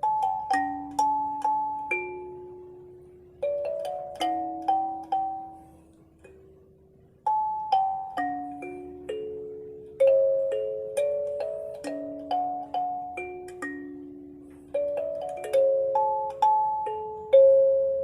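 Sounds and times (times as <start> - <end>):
kalimba melody: 0.0 - 18.0.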